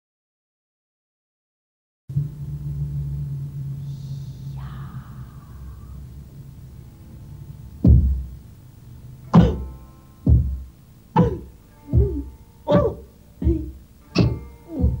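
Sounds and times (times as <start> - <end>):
low steady hum: 2.1 - 15.0.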